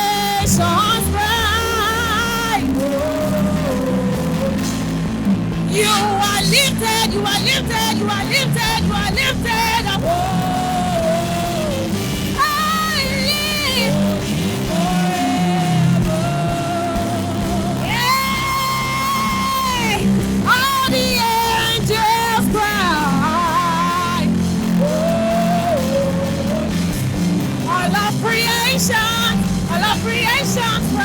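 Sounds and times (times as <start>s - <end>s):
band playing gospel music: 0.0s - 31.0s
person singing: 0.0s - 31.0s.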